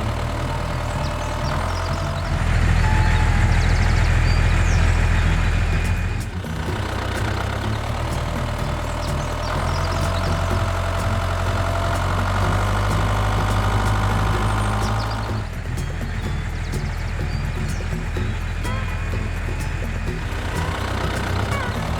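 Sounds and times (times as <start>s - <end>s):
higher engine tone: 0.0s - 21.9s
vehicle engine idling: 0.0s - 21.9s.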